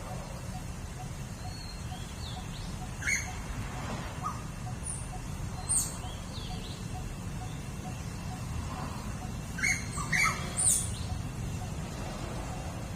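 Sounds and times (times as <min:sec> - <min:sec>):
birds chirping and squeaking: 0:00.3 - 0:12.9.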